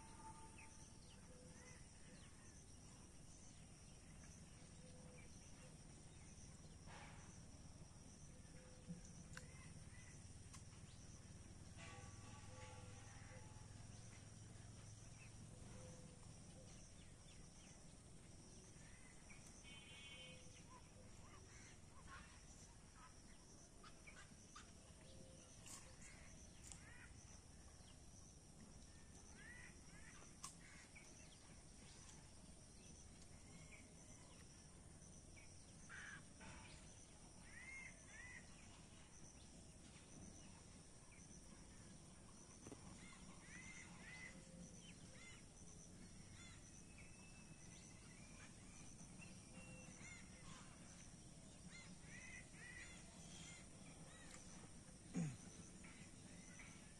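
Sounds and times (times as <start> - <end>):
insect drone: 0.0 - 56.9.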